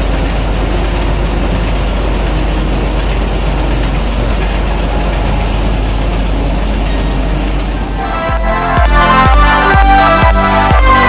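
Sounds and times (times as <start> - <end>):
marine diesel engine droning: 0.0 - 11.0.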